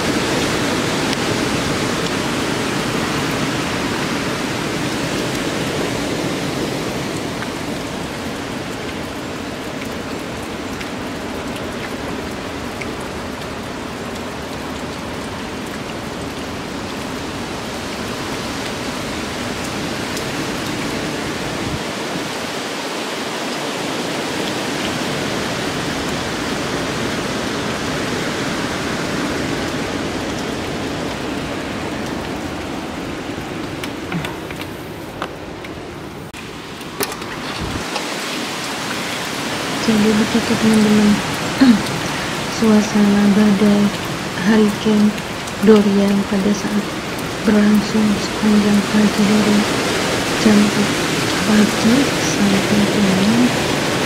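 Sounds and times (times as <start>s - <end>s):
heavy rain: 0.0s - 54.0s
hurricane wind: 0.0s - 54.0s.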